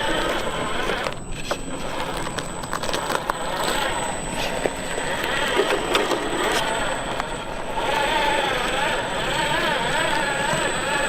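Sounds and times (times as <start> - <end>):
toy vehicle motor whirring: 0.0 - 11.0.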